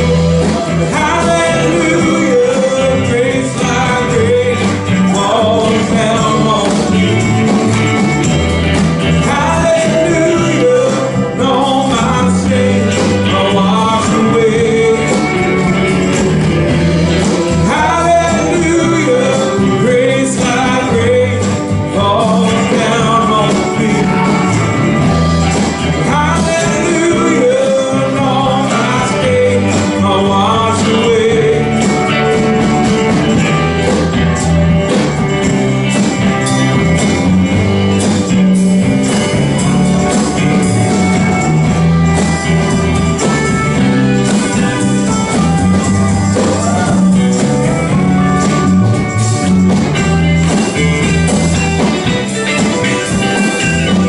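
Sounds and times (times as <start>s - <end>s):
electric guitar: 0.0s - 54.0s
live band playing country music: 0.0s - 54.0s
person singing: 0.0s - 54.0s.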